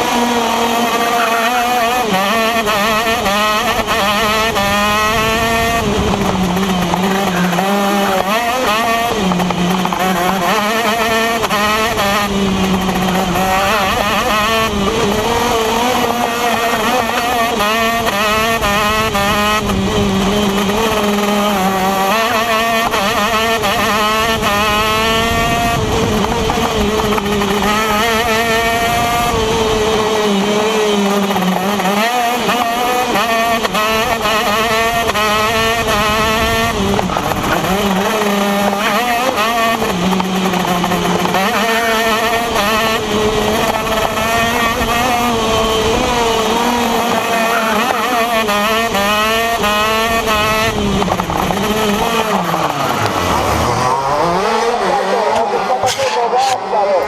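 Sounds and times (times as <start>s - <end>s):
two-stroke kart engine revving: 0.0s - 57.0s.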